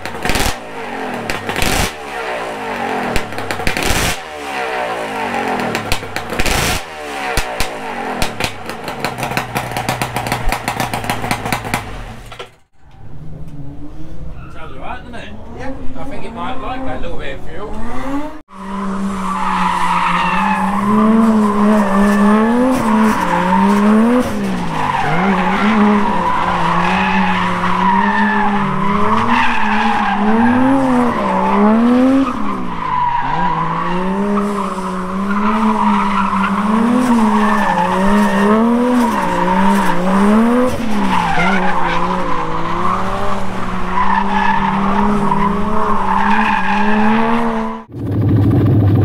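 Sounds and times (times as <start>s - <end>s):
racing engine revving: 0.0s - 11.8s, 15.1s - 49.0s.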